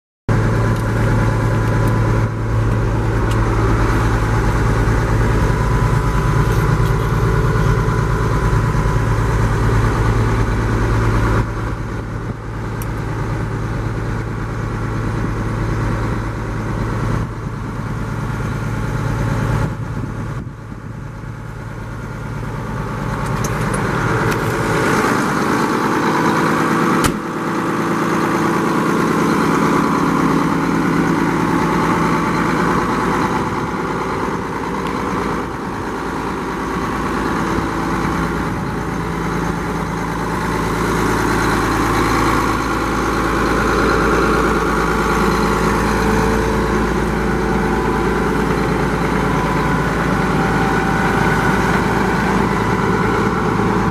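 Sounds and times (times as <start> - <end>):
tractor diesel engine idling: 0.3 - 53.9.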